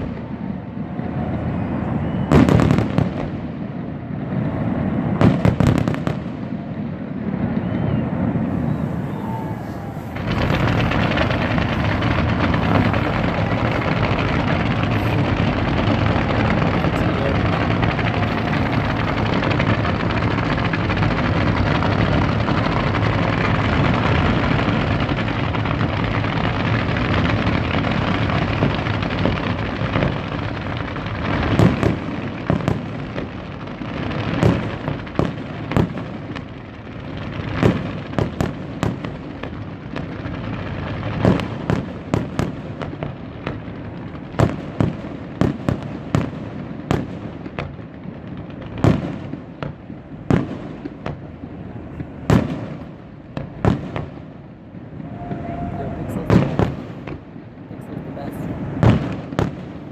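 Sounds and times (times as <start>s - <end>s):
fireworks bangs and pops: 0.0s - 59.9s
fireworks rumbling and crackling: 0.0s - 59.9s.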